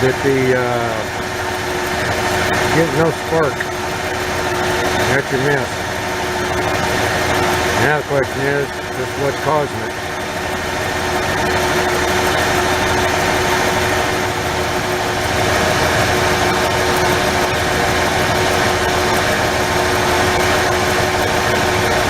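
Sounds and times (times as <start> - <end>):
misfiring engine idling: 0.0 - 22.0.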